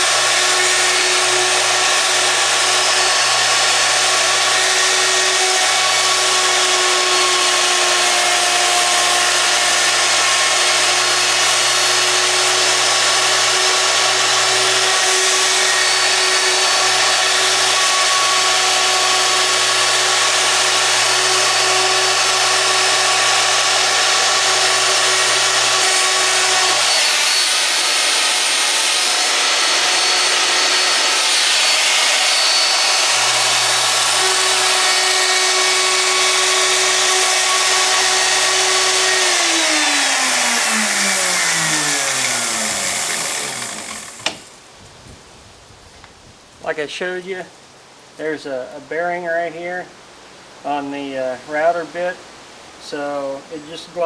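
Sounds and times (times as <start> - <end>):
router whining cutting wood: 0.0 - 44.5.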